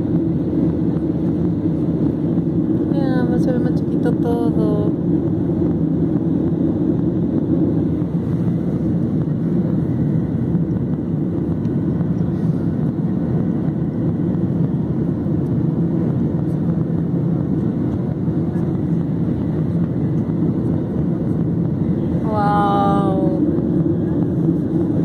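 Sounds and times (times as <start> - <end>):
jet airliner cabin drone: 0.0 - 25.0.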